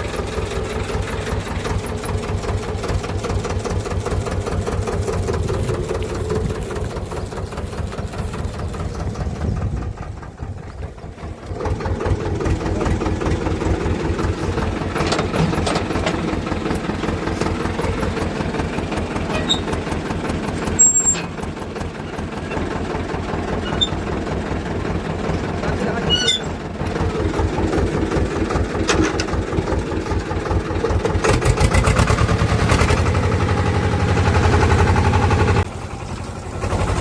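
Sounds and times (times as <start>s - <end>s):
tractor diesel engine throbbing: 0.0s - 37.0s.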